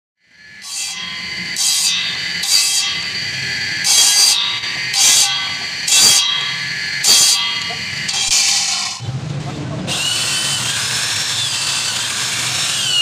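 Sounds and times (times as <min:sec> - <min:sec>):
electric motor whining: 0:00.3 - 0:09.0, 0:09.9 - 0:13.0
bamboo grinding on disc: 0:00.5 - 0:09.0, 0:09.9 - 0:13.0.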